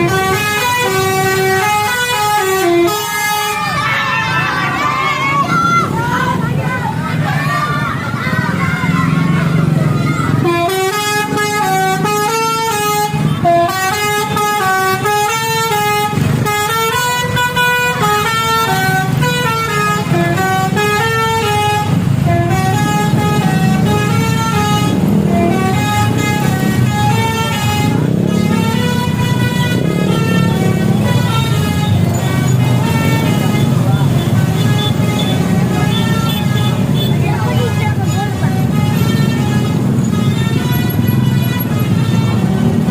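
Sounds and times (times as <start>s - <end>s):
bus horn playing a tune: 0.0s - 5.3s, 10.2s - 42.9s.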